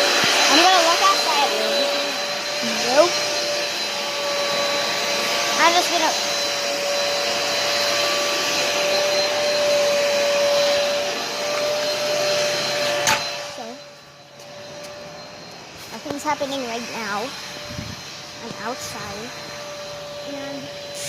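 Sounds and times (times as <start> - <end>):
constant whine: 0.0 - 21.0
motor or fan whooshing: 0.0 - 21.0.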